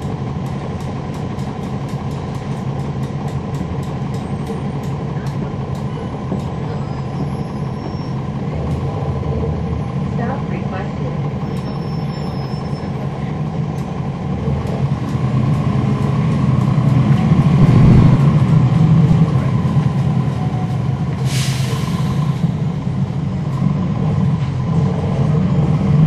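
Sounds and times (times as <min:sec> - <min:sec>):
bus diesel engine pulling: 0:00.0 - 0:26.0.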